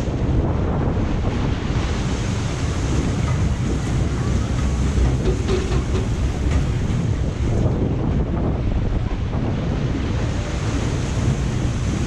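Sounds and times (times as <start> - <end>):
water churning and splashing: 0.0 - 12.0
wind buffeting microphone: 0.0 - 12.0.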